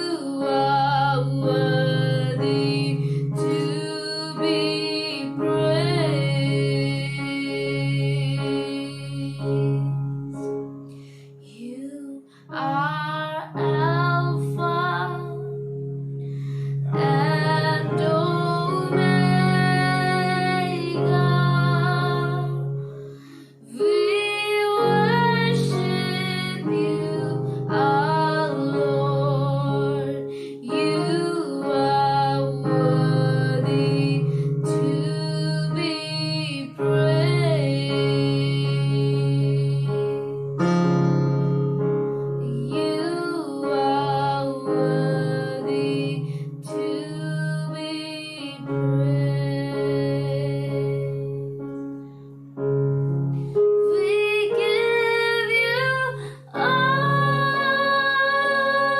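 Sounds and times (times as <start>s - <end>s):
woman singing: 0.0s - 40.4s, 42.4s - 51.6s, 53.8s - 58.9s
sustained keyboard chords: 0.0s - 58.9s.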